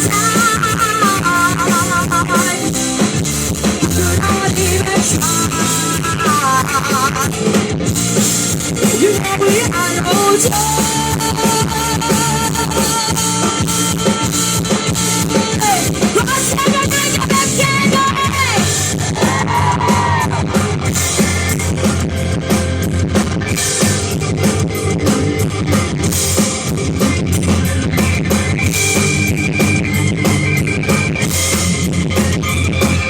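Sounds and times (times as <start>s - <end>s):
drum kit beat with cymbals: 0.0s - 33.0s
electric guitar: 0.0s - 33.0s.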